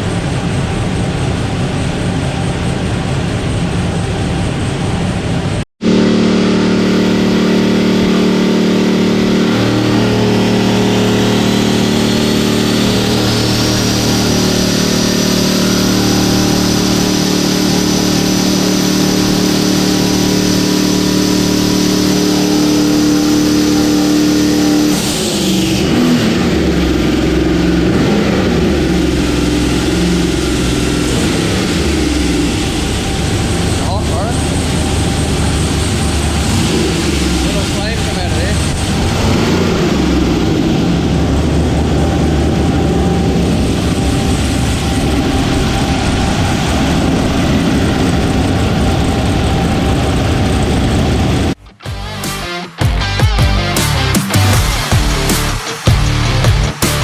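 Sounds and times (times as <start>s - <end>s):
car engine at high revs: 0.0s - 51.6s, 53.6s - 57.0s
sudden rush of air: 0.0s - 51.6s
turbo whine: 0.0s - 57.0s.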